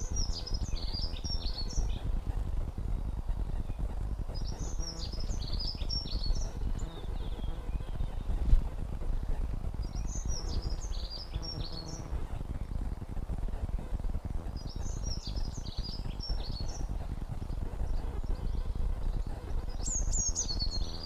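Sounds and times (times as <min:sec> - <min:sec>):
songbird chirping: 0:00.0 - 0:12.3, 0:14.4 - 0:21.0
microphone popping and crackling: 0:00.0 - 0:21.0.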